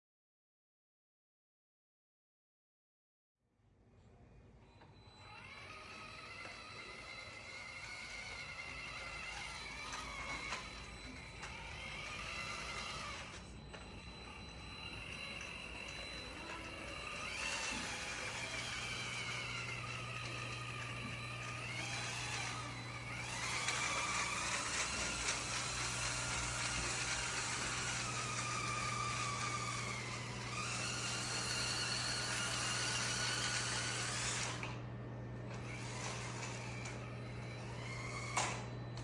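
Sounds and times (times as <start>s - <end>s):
rc car electric motor whining: 4.8s - 39.0s.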